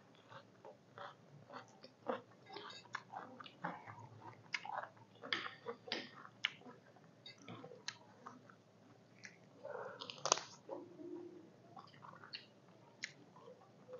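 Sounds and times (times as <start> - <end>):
people chewing and biting: 0.0 - 8.6, 9.2 - 10.9, 11.8 - 13.9.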